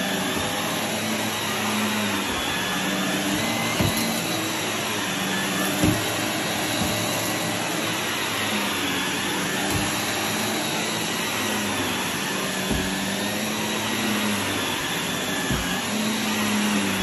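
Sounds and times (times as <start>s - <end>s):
vacuum cleaner on carpet: 0.0s - 17.0s.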